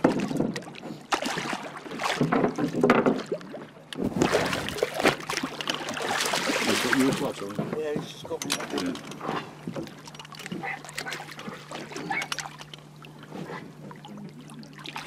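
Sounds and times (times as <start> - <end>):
fish thrashing and splashing water: 0.0 - 8.0, 9.3 - 15.0.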